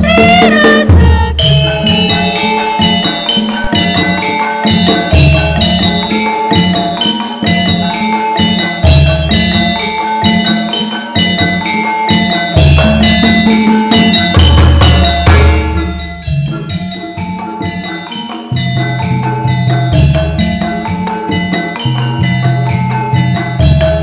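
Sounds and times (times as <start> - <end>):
metallophones ringing notes: 0.0 - 24.0.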